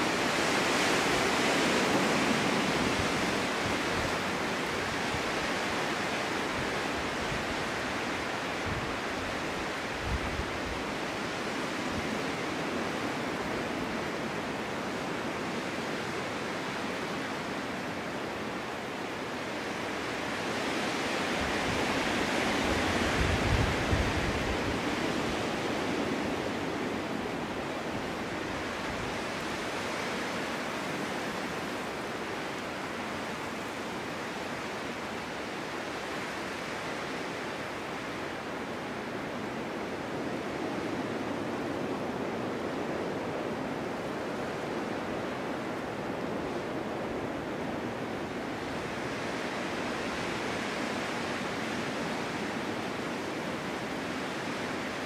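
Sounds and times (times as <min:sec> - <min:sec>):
snowstorm wind blowing: 0:00.0 - 0:55.0.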